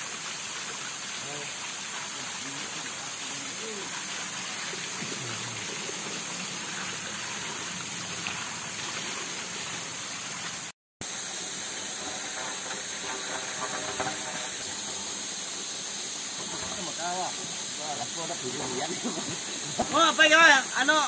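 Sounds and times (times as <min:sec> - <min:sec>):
steady hiss: 0:00.0 - 0:21.0
water pouring and splashing: 0:00.0 - 0:21.0.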